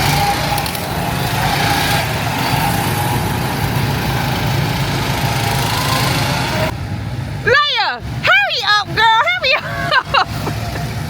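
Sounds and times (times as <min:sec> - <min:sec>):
go-kart engines buzzing: 0:00.0 - 0:11.0.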